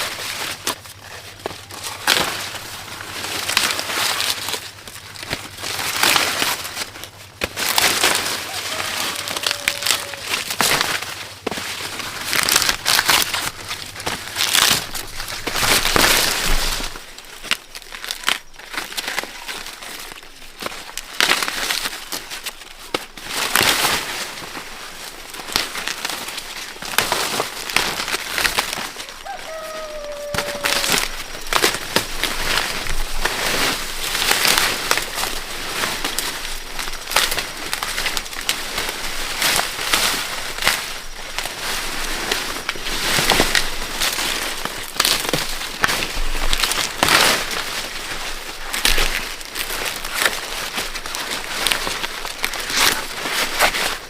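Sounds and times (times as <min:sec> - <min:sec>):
dry corn leaves rustling: 0:00.0 - 0:54.0.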